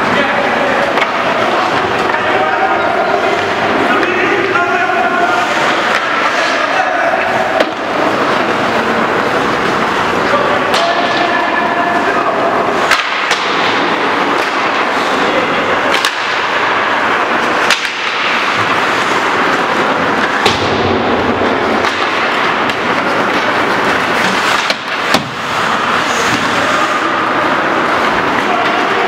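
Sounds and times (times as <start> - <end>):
hockey sticks striking puck: 0.0 - 29.0
skates scraping on ice: 5.1 - 29.0.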